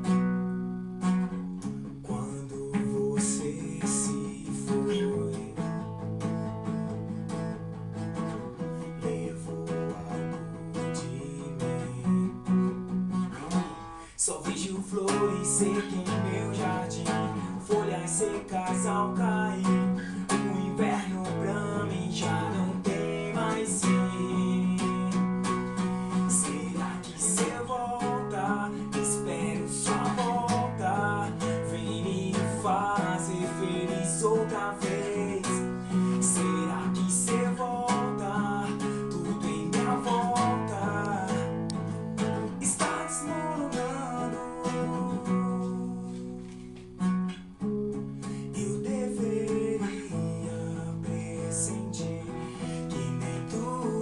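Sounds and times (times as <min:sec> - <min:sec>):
acoustic guitar strumming: 0:00.0 - 0:54.0
man singing: 0:02.0 - 0:06.2, 0:08.5 - 0:46.5, 0:48.2 - 0:54.0.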